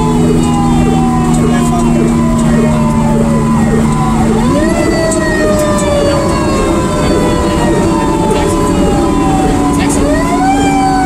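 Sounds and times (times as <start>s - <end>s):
engine and road rumble: 0.0s - 11.0s
fire engine siren wailing: 0.0s - 11.0s.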